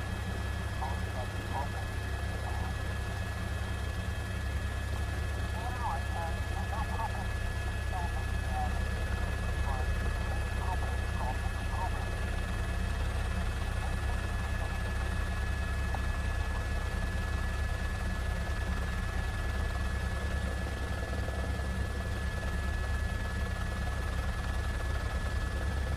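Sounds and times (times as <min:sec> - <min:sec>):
helicopter rotor and engine rumble: 0:00.0 - 0:25.9.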